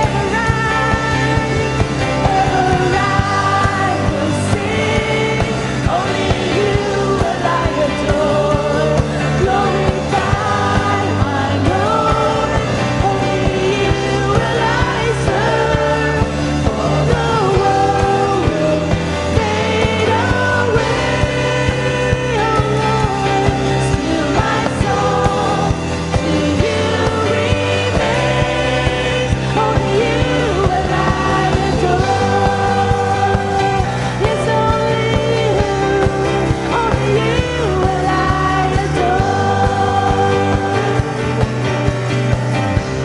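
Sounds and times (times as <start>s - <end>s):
band playing worship song: 0.0s - 43.0s
several voices singing: 0.0s - 43.0s.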